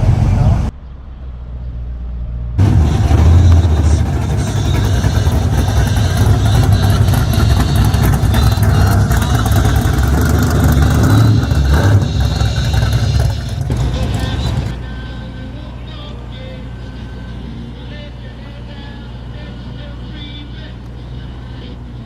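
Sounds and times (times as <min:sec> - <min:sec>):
car engine exhaust rumble: 0:00.0 - 0:22.0.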